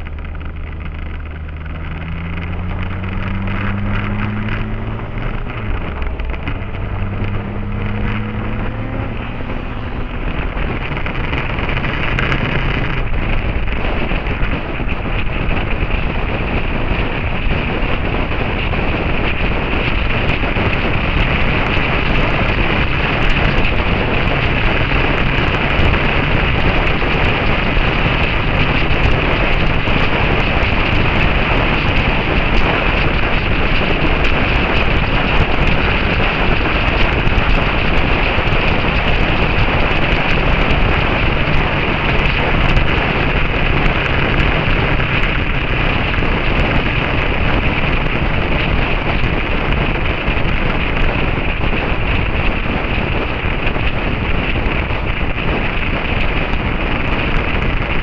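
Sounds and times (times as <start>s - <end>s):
motorcycle engine running: 0.0s - 58.0s
wind rush over microphone: 0.0s - 58.0s.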